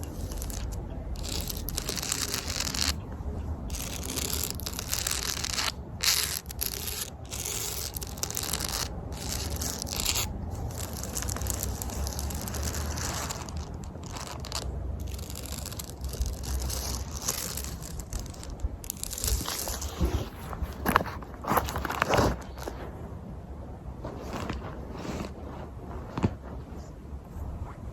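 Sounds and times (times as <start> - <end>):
fingernails scratching a surface: 0.0 - 3.0, 3.7 - 22.8, 24.1 - 26.4.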